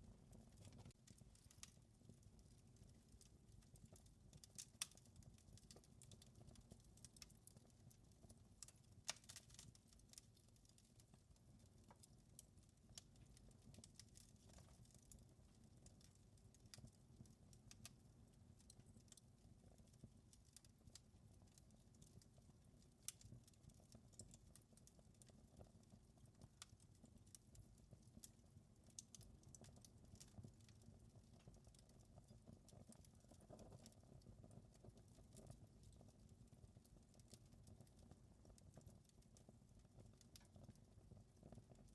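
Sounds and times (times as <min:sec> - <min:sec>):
fireplace fire crackling: 0:00.0 - 0:41.9.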